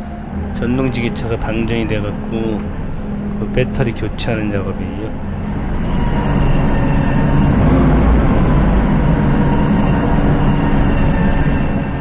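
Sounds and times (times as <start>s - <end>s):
forklift engine rumbling: 0.0s - 12.0s.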